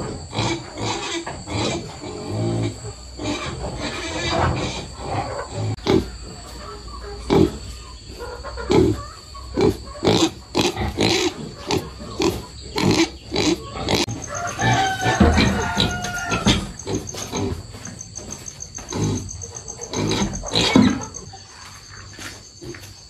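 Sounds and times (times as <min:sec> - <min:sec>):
pigs grunting and squealing: 0:00.0 - 0:22.1.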